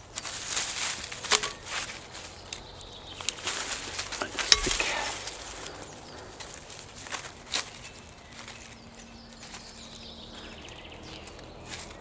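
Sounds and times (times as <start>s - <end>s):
dry leaves rustling and crunching: 0.0s - 12.0s.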